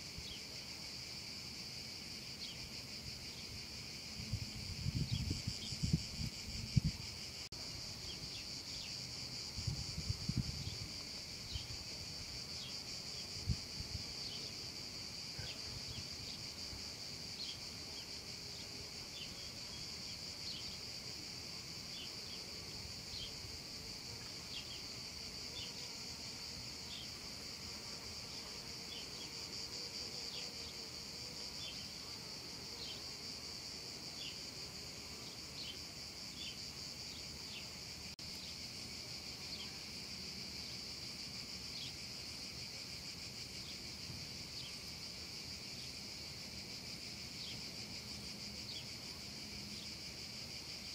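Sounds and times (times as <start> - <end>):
cicadas buzzing: 0.0 - 50.9.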